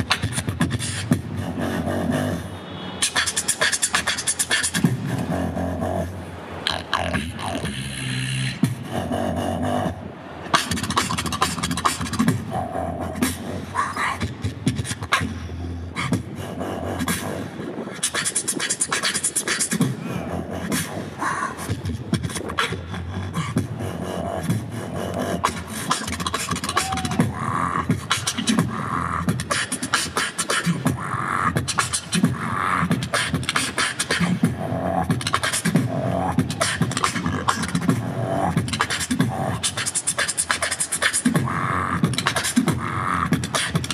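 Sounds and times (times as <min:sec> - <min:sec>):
beatboxing over speakers: 0:00.0 - 0:43.9.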